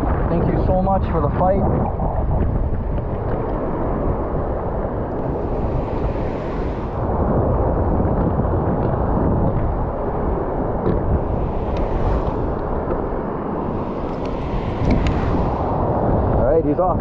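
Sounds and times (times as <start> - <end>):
surf washing over rocks: 0.0 - 17.0
wind on microphone: 0.0 - 17.0.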